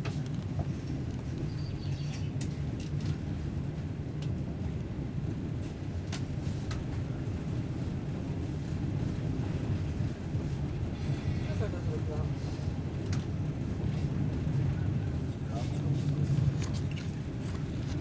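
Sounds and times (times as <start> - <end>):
train running gear rumble: 0.0 - 18.0.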